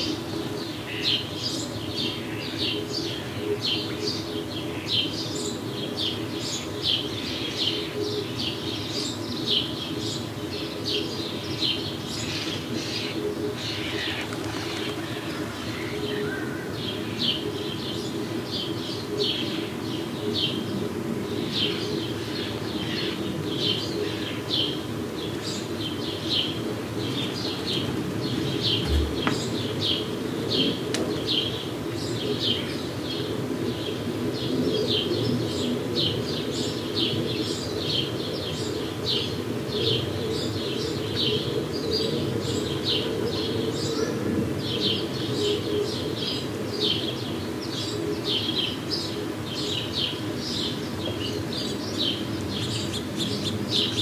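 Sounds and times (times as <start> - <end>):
birds chirping: 0.0 - 33.3, 36.1 - 54.0.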